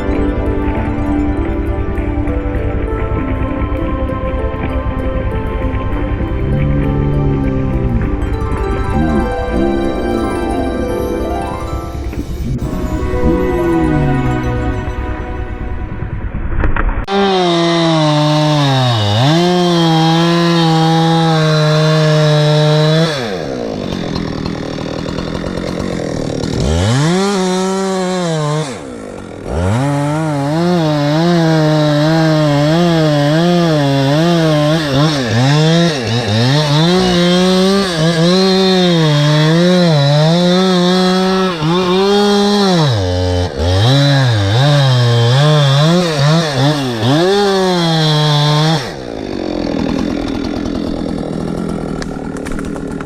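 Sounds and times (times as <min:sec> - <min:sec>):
chainsaw cutting wood: 0:00.0 - 0:14.8, 0:17.0 - 0:53.0.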